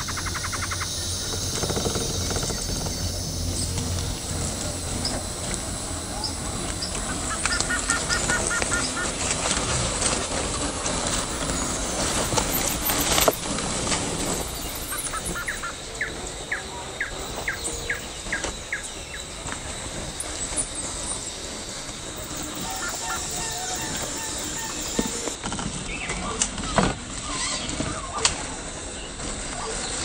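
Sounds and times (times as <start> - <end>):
leaves rustling under tyres: 0.0 - 30.0.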